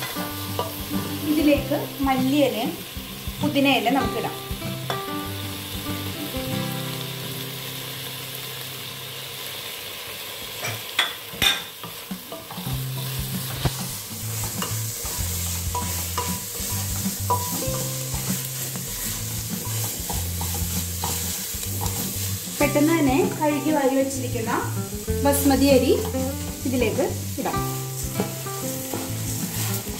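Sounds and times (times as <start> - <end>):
food sizzling in pot: 0.0 - 29.9.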